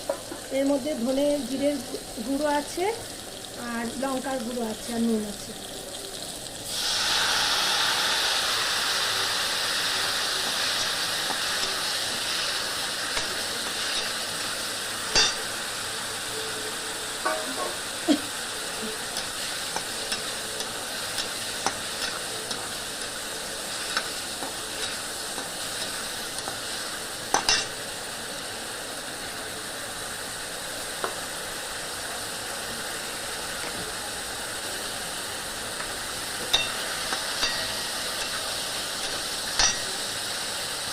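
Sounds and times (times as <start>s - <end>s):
spices sizzling in hot oil: 0.0s - 40.9s.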